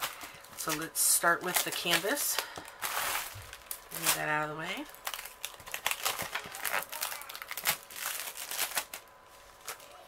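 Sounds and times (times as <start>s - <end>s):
cellophane wrap crinkling: 0.0s - 10.0s.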